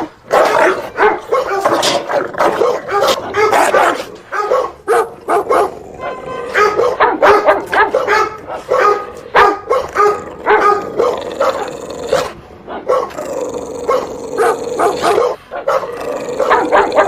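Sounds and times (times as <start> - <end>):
dog barking: 0.0 - 13.2, 13.9 - 17.0.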